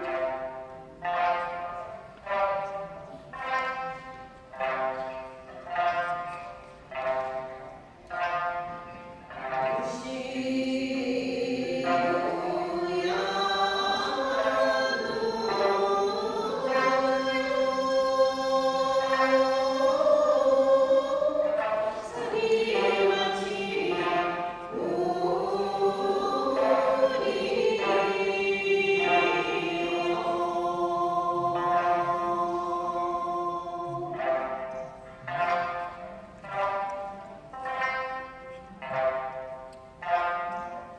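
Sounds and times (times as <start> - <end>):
group singing folk song: 0.0 - 40.9
plucked lute: 0.0 - 40.9.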